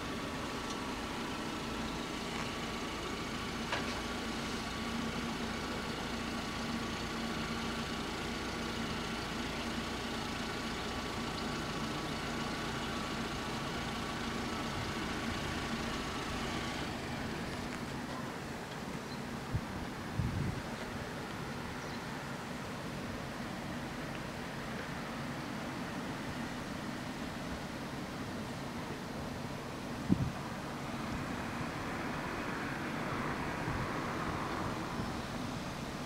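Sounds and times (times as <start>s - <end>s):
vehicle hum with faint whine: 0.0s - 36.0s.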